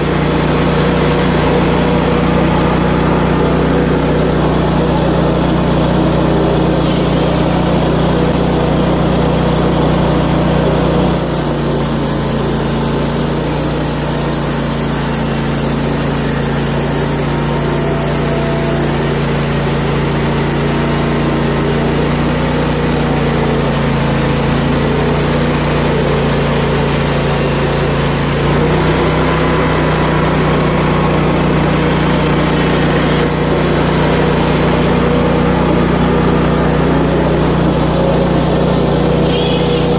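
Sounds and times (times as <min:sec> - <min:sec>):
gasoline engine running: 0:00.0 - 0:39.9
saw blade cutting hiss: 0:00.0 - 0:39.9.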